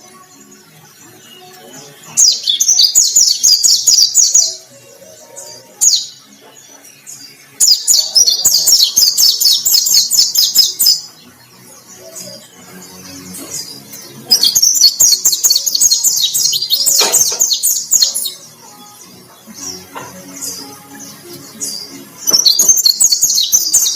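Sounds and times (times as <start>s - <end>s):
bird singing rapid chattering notes: 0.0s - 23.9s.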